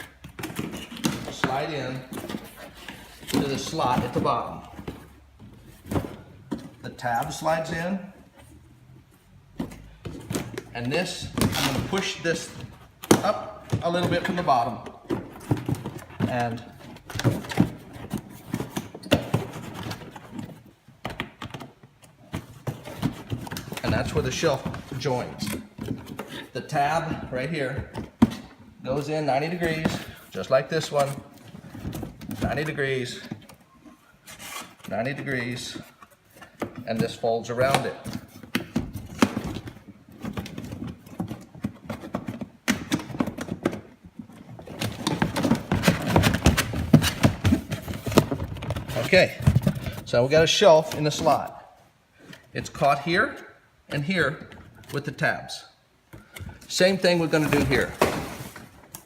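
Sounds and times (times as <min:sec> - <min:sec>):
cardboard rustling and scraping: 0:00.0 - 0:51.6, 0:56.7 - 0:59.0.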